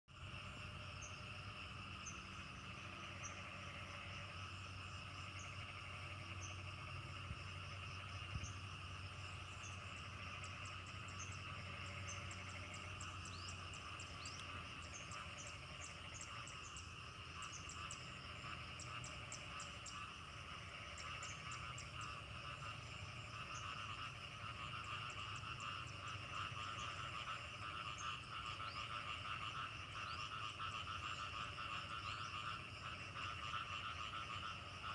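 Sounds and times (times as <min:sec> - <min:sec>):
frogs calling: 0:00.1 - 0:34.9
high insect chirps: 0:00.1 - 0:34.9.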